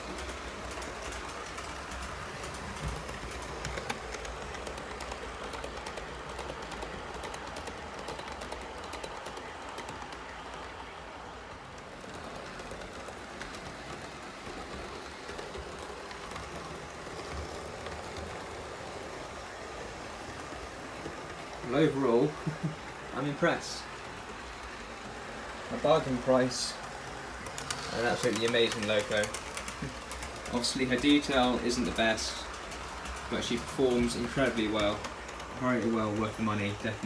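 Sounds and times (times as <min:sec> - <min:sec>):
model train running whirr: 0:00.0 - 0:37.0
wheels clicking over rail joints: 0:00.0 - 0:37.0.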